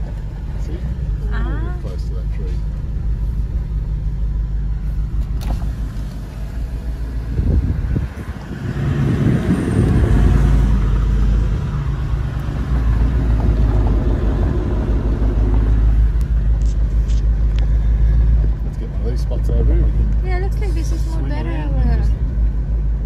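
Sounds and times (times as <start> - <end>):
vehicle rumbling over rough track: 0.0 - 23.0.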